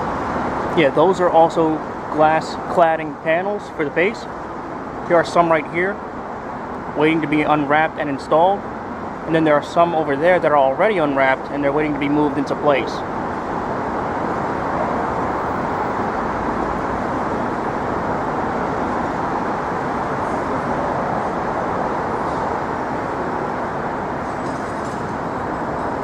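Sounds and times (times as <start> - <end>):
traffic roar: 0.0 - 26.0.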